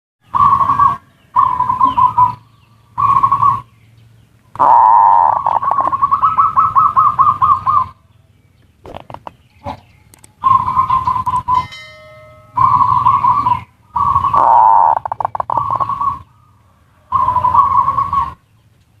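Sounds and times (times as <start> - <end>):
doves cooing: 0.2 - 3.8, 4.5 - 8.1, 8.8 - 11.7, 12.5 - 18.8.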